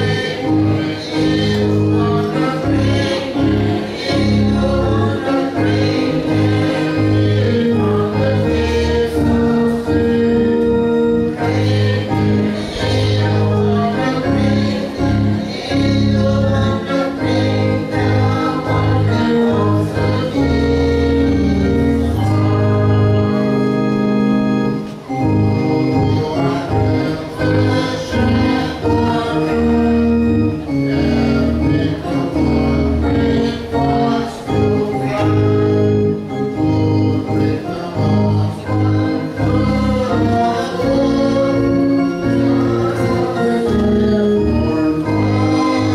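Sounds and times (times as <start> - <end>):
choir singing a hymn: 0.0 - 45.9
keyboard accompaniment: 0.0 - 45.9.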